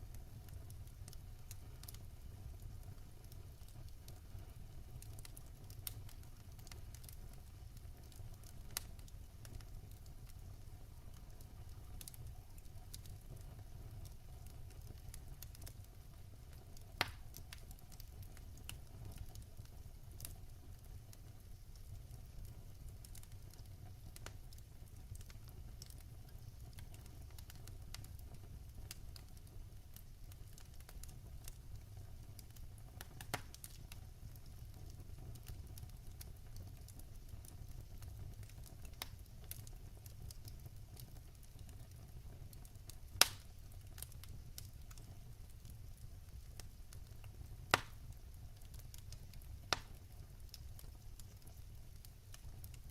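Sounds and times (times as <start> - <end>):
fire crackles and pops: 0.0 - 52.9
low rumble of flames: 0.0 - 52.9.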